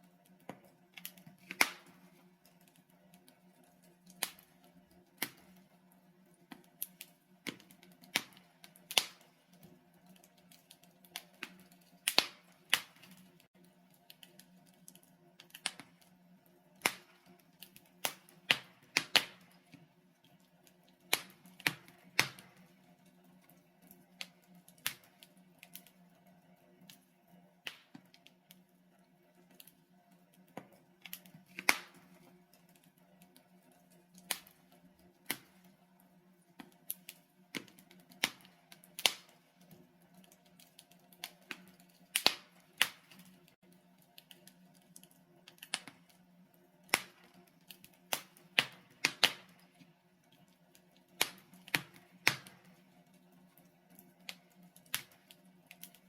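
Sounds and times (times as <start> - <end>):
burning logs crackling and popping: 0.0 - 56.0.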